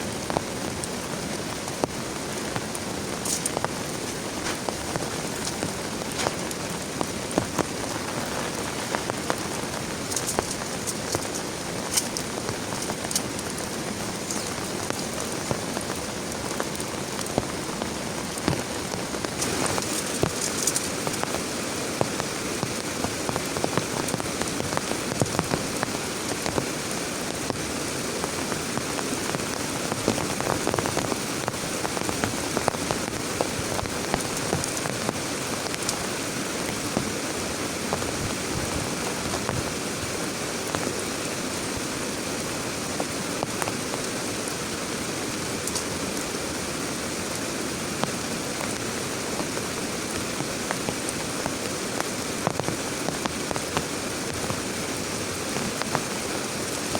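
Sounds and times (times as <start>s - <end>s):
heavy rain: 0.0s - 56.9s
raindrops tapping a surface: 0.0s - 56.9s.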